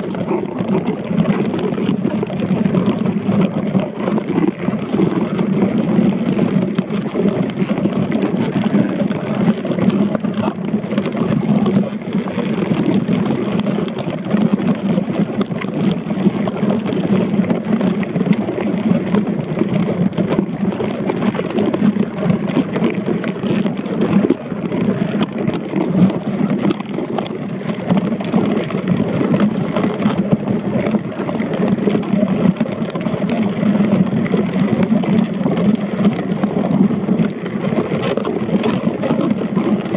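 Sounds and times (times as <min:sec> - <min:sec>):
small clicks and ticks: 0:00.0 - 0:39.9
underwater rumble: 0:00.0 - 0:39.9.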